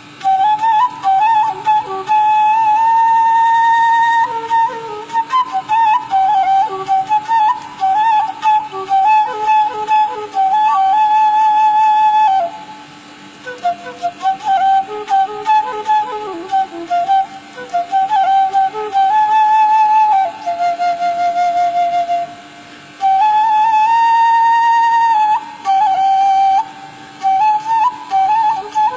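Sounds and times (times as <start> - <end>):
bamboo flute melody: 0.0 - 28.9.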